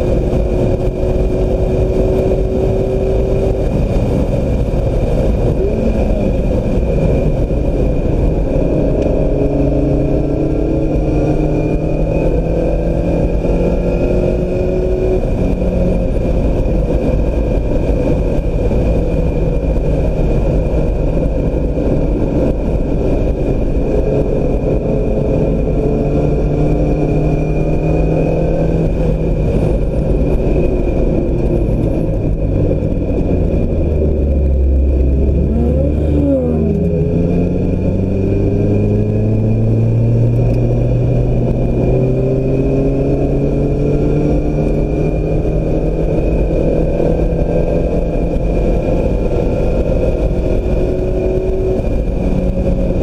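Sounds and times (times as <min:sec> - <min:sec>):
car engine revving: 0:00.0 - 0:53.0
wind and road noise: 0:00.0 - 0:53.0.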